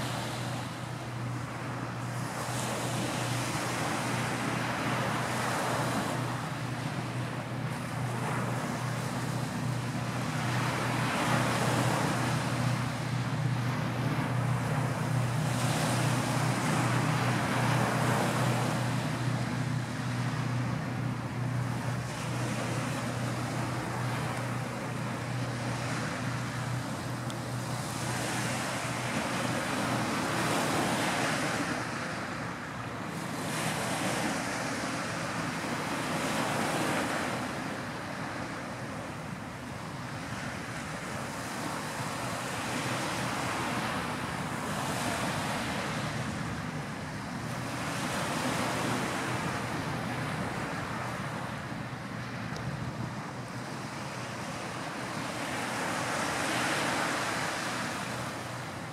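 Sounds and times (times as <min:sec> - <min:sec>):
surf washing ashore: 0:00.0 - 0:58.9.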